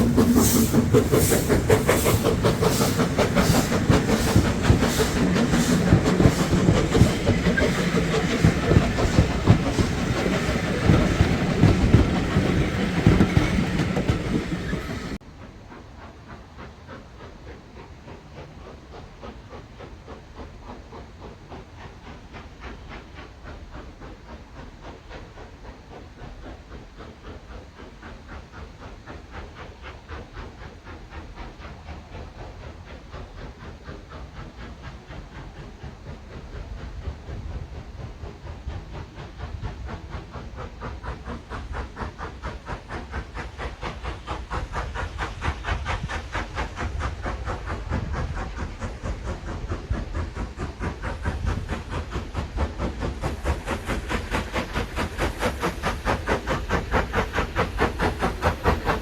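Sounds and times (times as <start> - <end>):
steam hiss: 0.0 - 59.0
steam train chuffing: 0.0 - 59.0.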